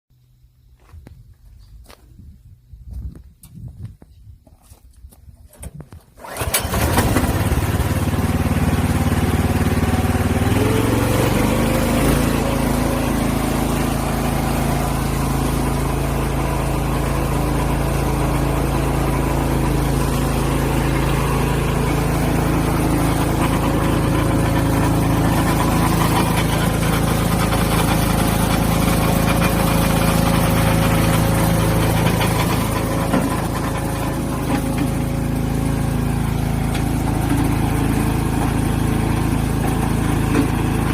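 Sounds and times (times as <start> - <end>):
engine running: 5.6 - 40.9.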